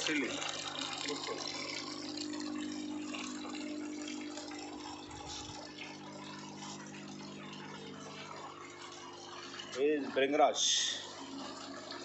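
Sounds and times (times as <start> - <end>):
pump motor humming: 0.0 - 12.0
water trickling and splashing: 0.0 - 12.0.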